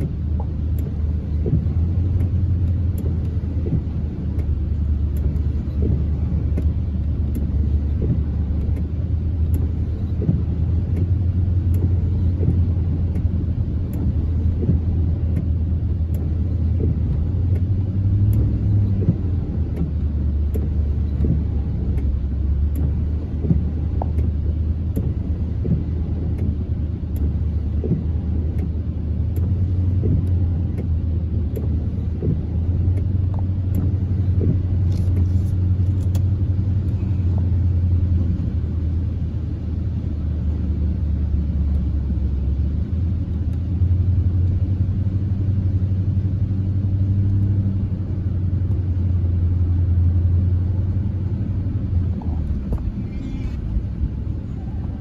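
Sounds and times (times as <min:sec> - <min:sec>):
car driving through floodwater: 0:00.0 - 0:55.0.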